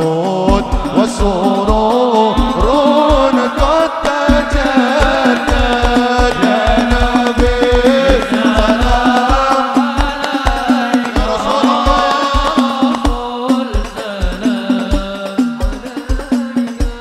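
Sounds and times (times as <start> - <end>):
hand-drum strokes: 0.0 - 17.0
steady low drum beat: 0.0 - 17.0.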